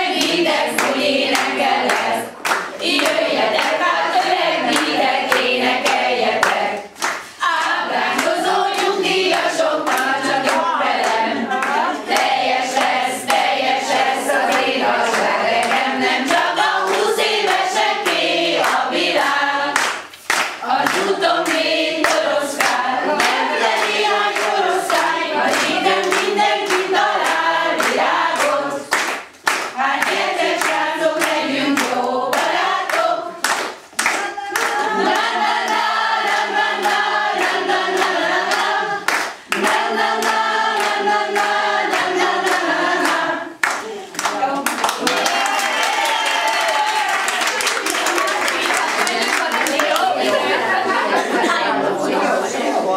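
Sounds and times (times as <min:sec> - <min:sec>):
women singing together: 0:00.0 - 0:52.9
hand claps: 0:00.1 - 0:13.5, 0:14.5 - 0:50.3.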